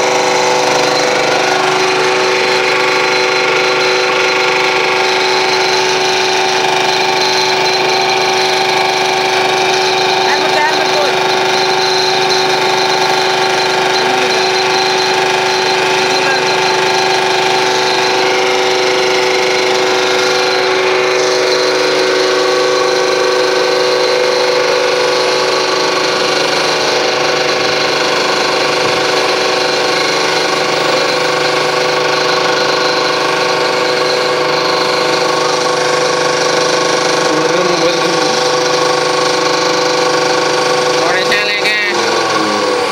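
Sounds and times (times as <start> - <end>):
hydraulic pump machine hum: 0.0 - 42.9.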